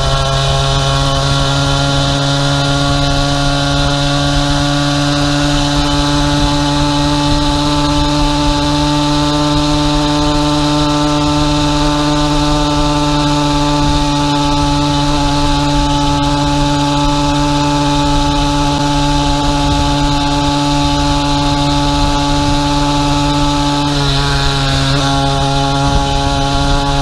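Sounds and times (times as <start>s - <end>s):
two-stroke engine running: 0.0s - 27.0s.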